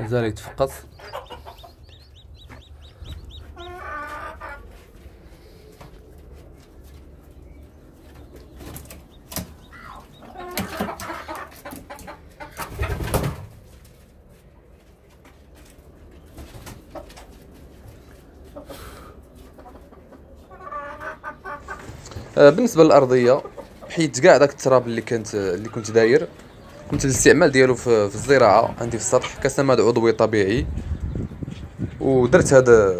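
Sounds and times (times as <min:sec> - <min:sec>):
chickens clucking: 0:00.0 - 0:13.7, 0:15.6 - 0:32.7.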